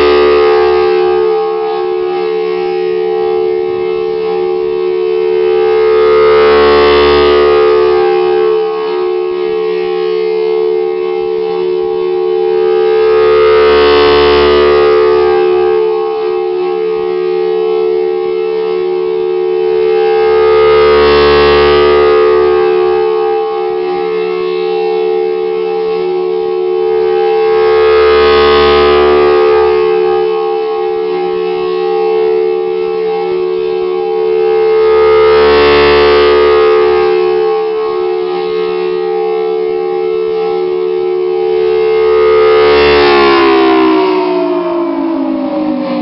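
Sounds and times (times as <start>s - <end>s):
rotating warning siren: 0.0s - 46.0s.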